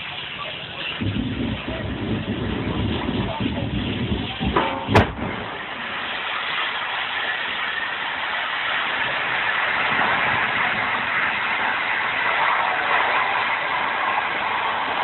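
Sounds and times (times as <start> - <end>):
gas jet fire hissing: 0.0 - 15.0.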